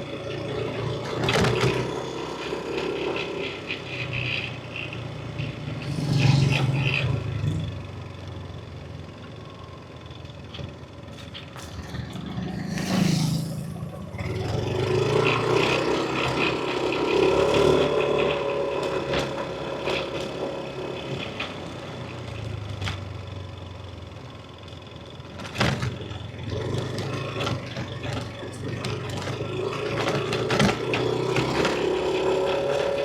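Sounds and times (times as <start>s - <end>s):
road and wind noise: 0.0s - 33.0s
scooter engine running: 0.0s - 33.0s.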